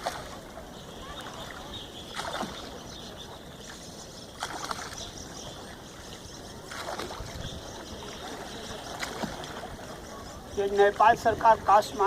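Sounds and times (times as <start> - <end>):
oars splashing in water: 0.0 - 11.8.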